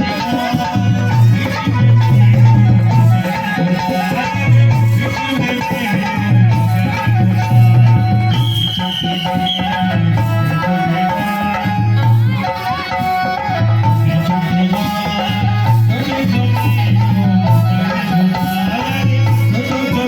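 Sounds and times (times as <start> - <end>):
folk music with heavy drum beat: 0.0 - 20.0.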